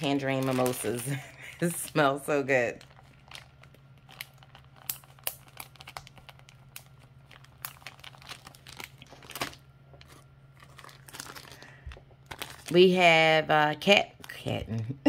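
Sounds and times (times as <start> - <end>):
plastic bags crinkling: 0.0 - 13.3.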